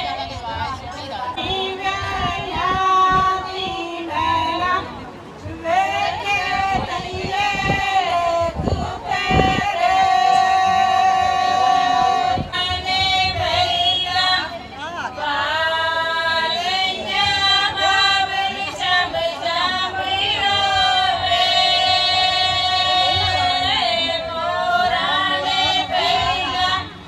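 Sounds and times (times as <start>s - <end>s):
women singing without instruments: 1.4s - 27.0s.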